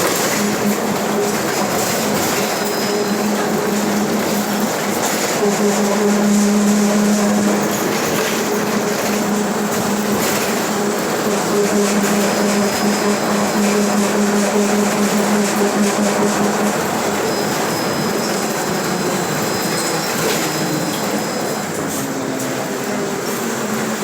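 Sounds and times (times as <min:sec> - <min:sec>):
bus differential whine: 0:00.0 - 0:24.0
bus road and running noise: 0:00.0 - 0:24.0.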